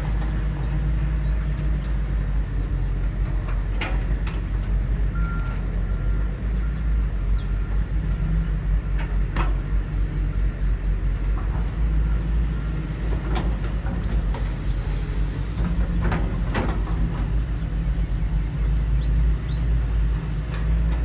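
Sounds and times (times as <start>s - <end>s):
machine engine rumbling: 0.0s - 21.0s.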